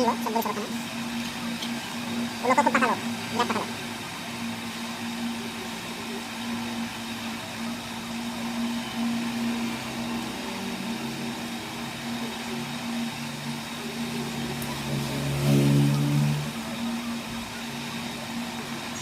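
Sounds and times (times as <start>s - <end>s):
low tone shifting in pitch: 0.0s - 19.0s
machine humming: 0.0s - 19.0s.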